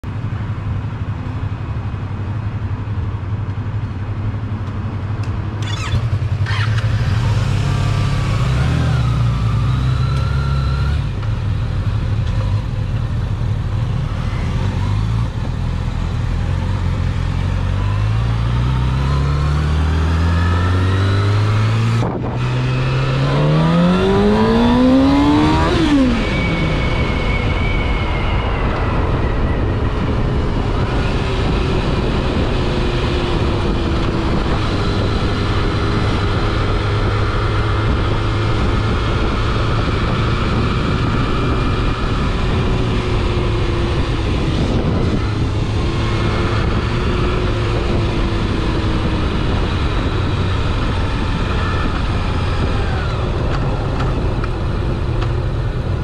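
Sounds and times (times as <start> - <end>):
motorcycle accelerating: 0.0 - 56.0.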